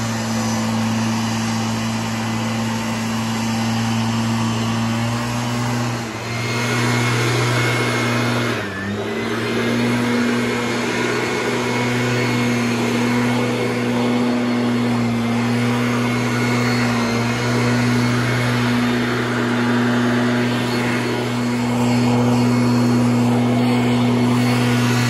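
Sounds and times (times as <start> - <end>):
small gasoline engine running: 0.0 - 25.0.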